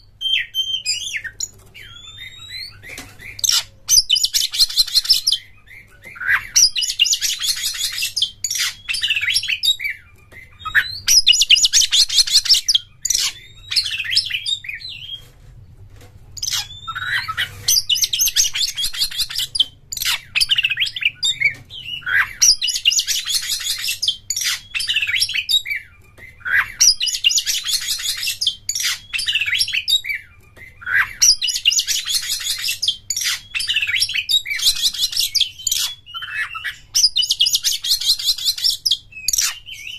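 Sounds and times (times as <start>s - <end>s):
bird singing chattering trills: 0.0s - 15.2s, 16.4s - 39.9s.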